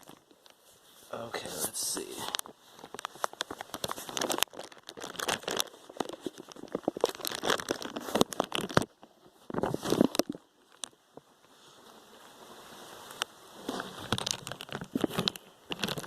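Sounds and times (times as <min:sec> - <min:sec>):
crinkling handling noise: 0:00.0 - 0:16.0.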